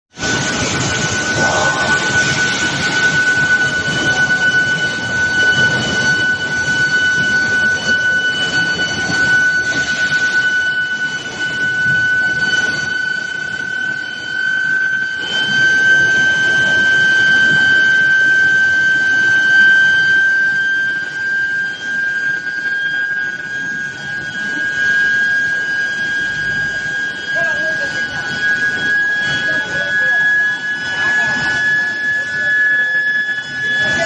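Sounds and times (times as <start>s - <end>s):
induction heater whine: 0.1s - 34.0s
machinery rumble: 0.2s - 34.0s.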